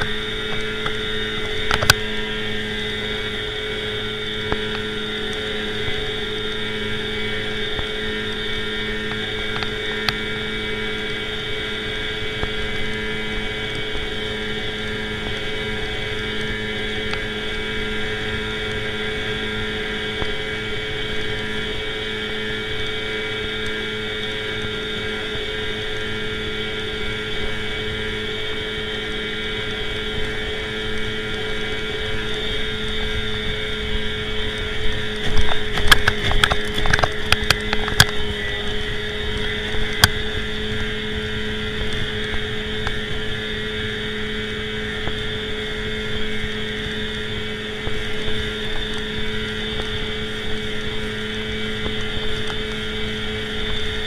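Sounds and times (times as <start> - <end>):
outboard motor running: 0.0 - 54.0
water and wind noise: 0.0 - 54.0.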